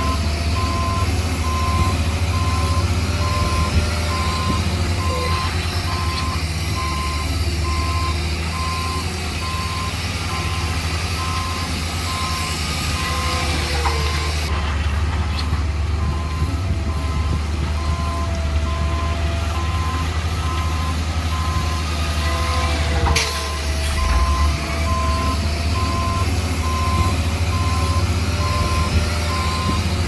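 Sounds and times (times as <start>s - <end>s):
reversing alarm beeping: 0.0s - 14.5s, 16.0s - 29.9s
low engine hum: 0.0s - 30.0s.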